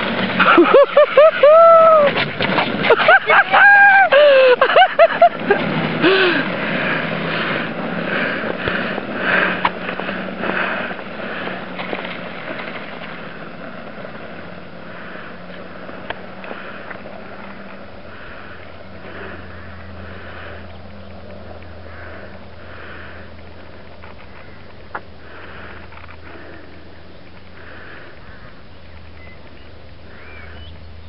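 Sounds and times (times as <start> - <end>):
steady low hum: 0.0 - 31.0
heavy rhythmic breathing: 4.1 - 29.1.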